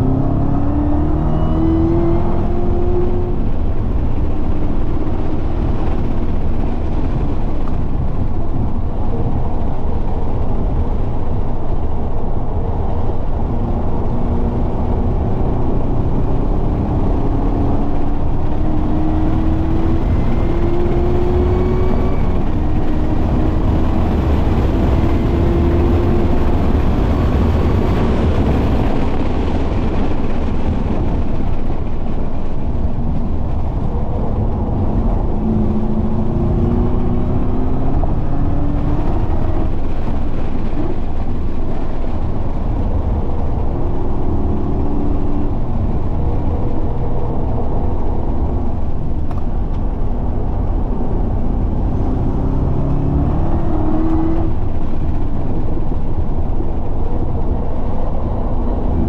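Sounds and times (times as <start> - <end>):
car engine driven hard: 0.0 - 59.0
road and wind noise: 0.0 - 59.0.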